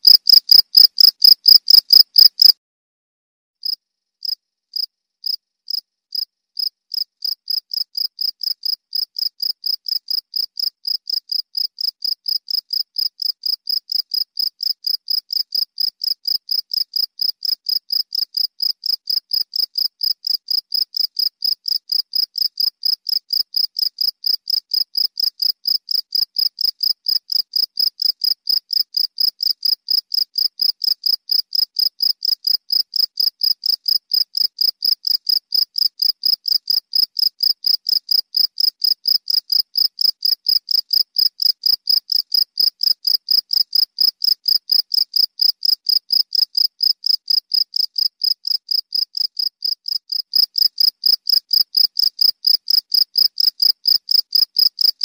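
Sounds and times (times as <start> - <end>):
cricket chirping: 0.0 - 2.6, 3.6 - 55.0.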